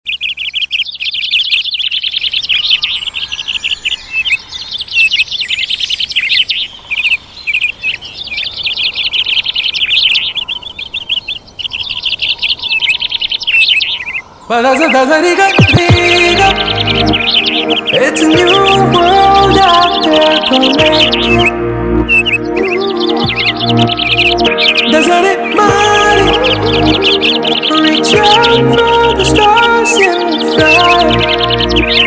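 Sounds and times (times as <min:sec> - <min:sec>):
flock of small birds chirping: 0:00.1 - 0:32.0.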